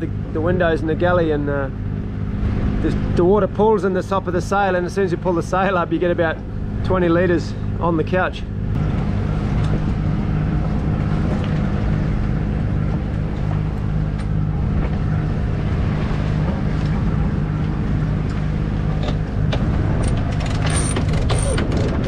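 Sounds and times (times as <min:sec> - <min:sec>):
diesel engine running steadily: 0:00.0 - 0:22.0.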